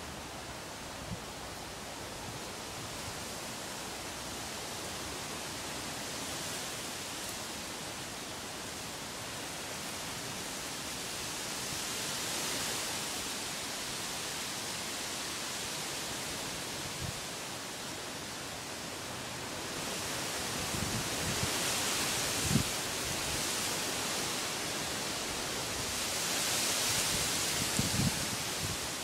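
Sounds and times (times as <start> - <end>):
wind rustling through trees: 0.0 - 29.0.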